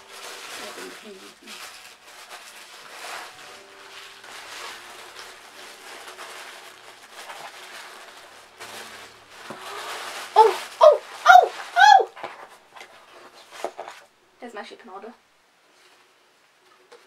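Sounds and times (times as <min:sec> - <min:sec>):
packaging rustling: 0:00.0 - 0:14.1.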